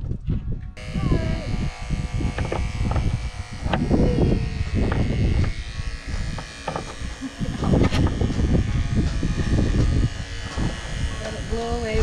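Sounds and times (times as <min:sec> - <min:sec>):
electric pet clippers running: 0:00.8 - 0:12.0.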